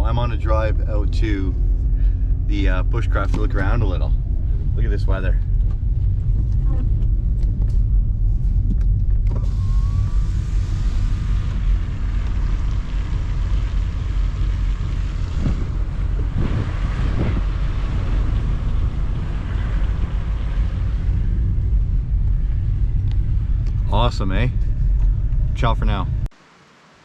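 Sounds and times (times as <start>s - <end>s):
car engine and road rumble: 0.0s - 27.0s.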